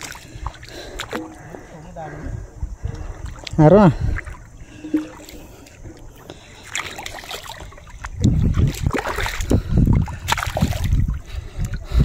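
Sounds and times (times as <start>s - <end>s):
footsteps splashing in muddy water: 0.0s - 12.0s.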